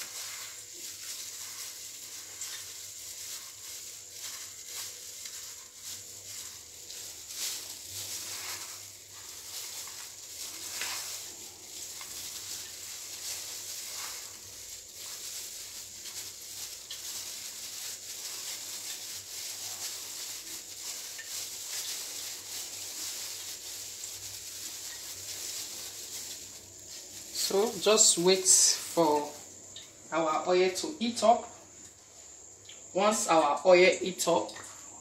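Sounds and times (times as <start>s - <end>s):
breadcrumbs rustling: 0.0s - 33.5s
plastic gloves crinkling: 0.0s - 34.4s
steady high hiss: 0.0s - 35.0s.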